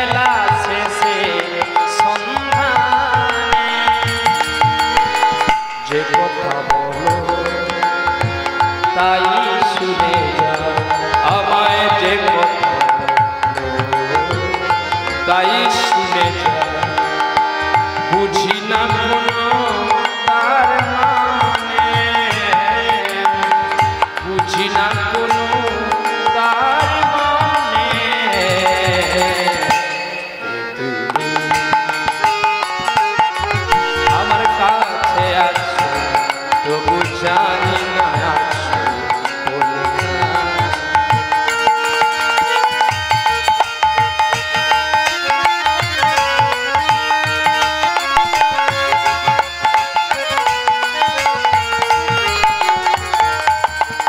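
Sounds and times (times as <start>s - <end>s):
hand drum rhythm: 0.0s - 29.9s, 31.2s - 54.0s
harmonium melody: 0.0s - 54.0s.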